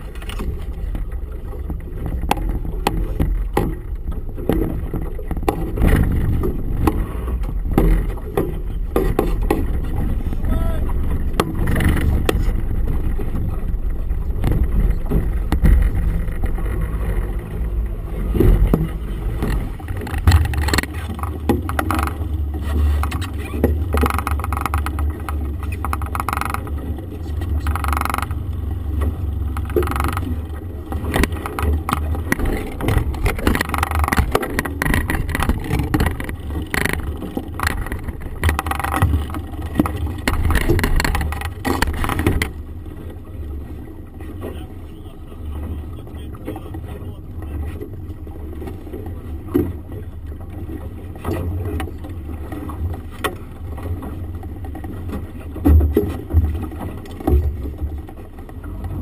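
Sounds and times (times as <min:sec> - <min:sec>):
outboard motor droning: 0:00.0 - 0:59.0
water splashes: 0:00.0 - 0:59.0.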